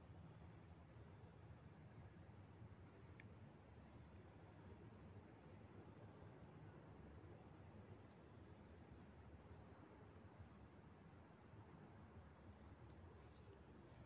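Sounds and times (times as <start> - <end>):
insects trilling and chirping: 0.0 - 14.0.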